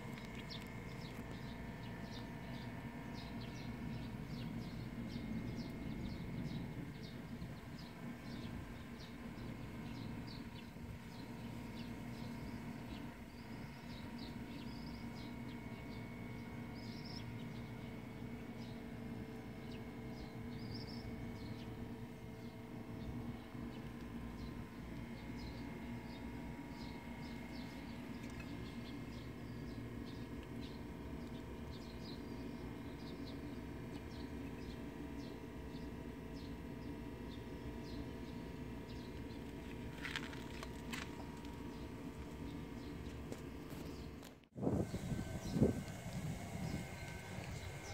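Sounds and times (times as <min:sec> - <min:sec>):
low background rumble: 0:00.0 - 0:47.9
small birds chirping: 0:00.0 - 0:47.9
steady low hum: 0:00.0 - 0:47.9.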